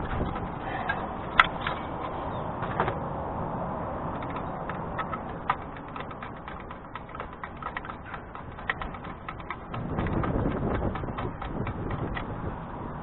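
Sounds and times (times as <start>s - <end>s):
small uneven clicks: 0.0s - 3.0s, 4.0s - 13.0s.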